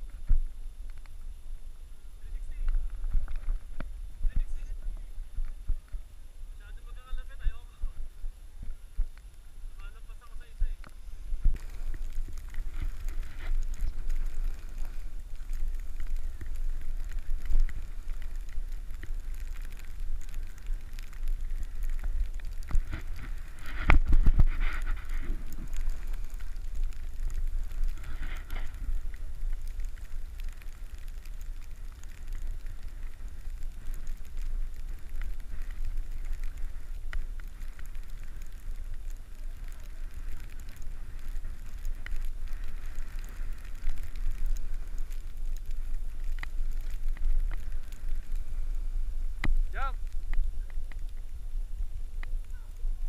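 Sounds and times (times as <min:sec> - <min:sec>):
skis sliding on snow: 0:06.6 - 0:53.0
wind buffeting microphone: 0:10.4 - 0:53.0.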